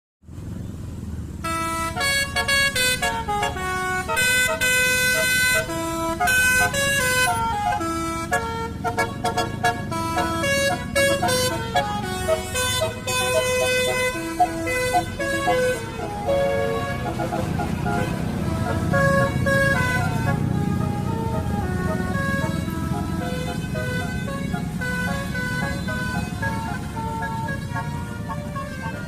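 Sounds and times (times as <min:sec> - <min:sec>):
low engine rumble: 0:00.3 - 0:29.0
multi-tone air horn melody: 0:01.4 - 0:29.0.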